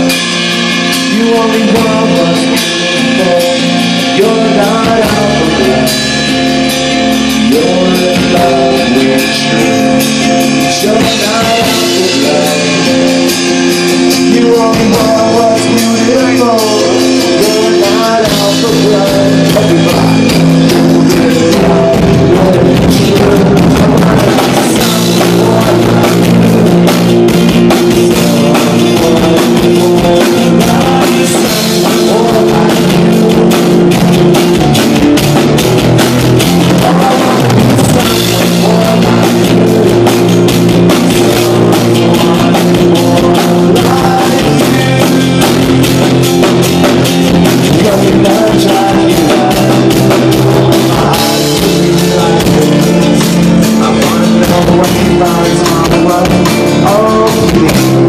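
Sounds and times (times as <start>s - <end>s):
acoustic guitar: 0.0s - 58.0s
drum kit: 0.0s - 58.0s
electric bass: 0.0s - 58.0s.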